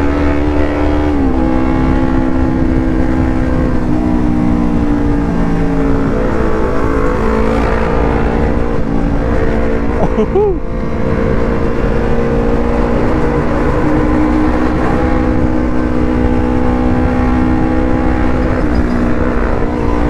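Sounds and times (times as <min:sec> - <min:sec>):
motorcycle engine at speed: 0:00.0 - 0:20.0
wind noise: 0:00.0 - 0:20.0.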